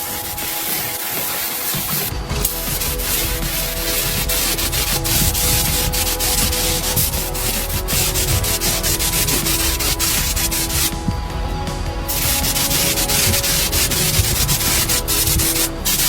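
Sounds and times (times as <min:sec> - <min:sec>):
sanding bodywork: 0:00.0 - 0:16.0.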